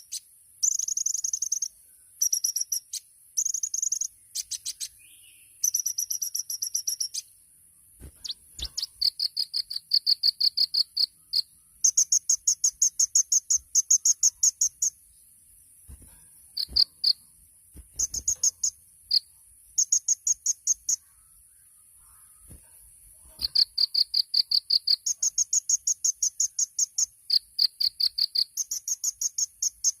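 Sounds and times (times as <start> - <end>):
insect-like trill: 0.0 - 4.9, 5.6 - 7.2, 8.2 - 15.0, 16.6 - 21.1, 23.3 - 30.0.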